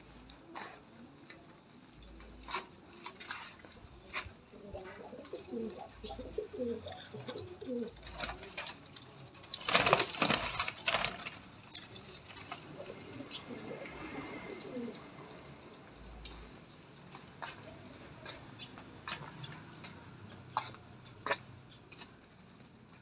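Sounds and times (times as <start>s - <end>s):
pigeons cooing: 0.0s - 22.4s.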